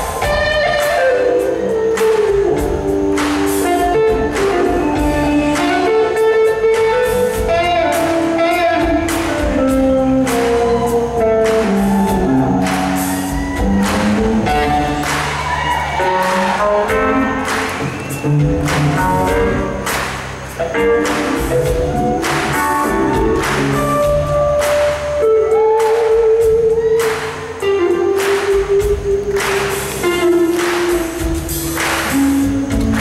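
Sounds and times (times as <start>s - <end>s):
steady drum beat: 0.0s - 33.0s
electric guitar lead solo: 0.2s - 19.9s, 20.6s - 33.0s.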